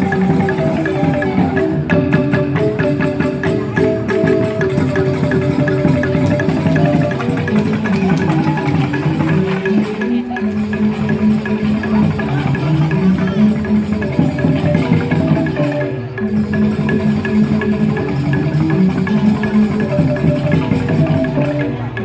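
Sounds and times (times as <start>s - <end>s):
bamboo xylophones struck fast: 0.0s - 22.0s
percussion: 0.0s - 22.0s.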